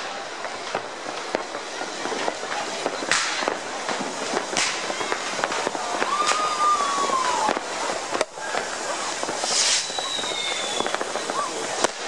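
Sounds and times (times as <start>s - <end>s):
crackle of small firework pops: 0.0s - 12.0s
firecracker bangs: 0.0s - 12.0s
loud firework burst: 0.0s - 12.0s.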